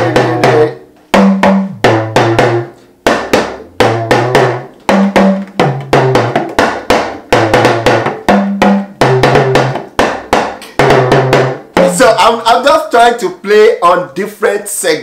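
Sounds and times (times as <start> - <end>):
talking drum struck with stick: 0.0 - 12.6.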